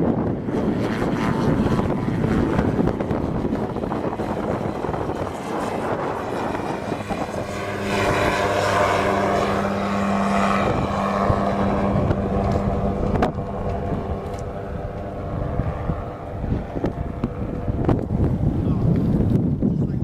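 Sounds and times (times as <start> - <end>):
helicopter droning: 0.0 - 20.0.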